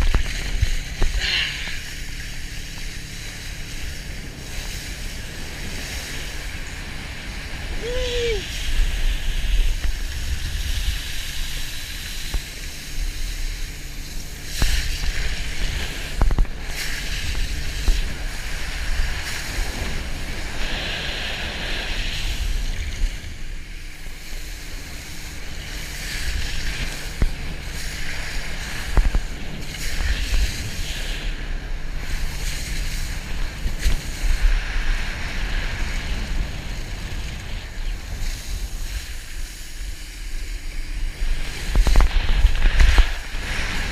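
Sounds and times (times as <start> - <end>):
boat engine droning: 0.0 - 43.9
wakeboard hissing across water: 0.0 - 43.9
wind buffeting microphone: 0.0 - 43.9.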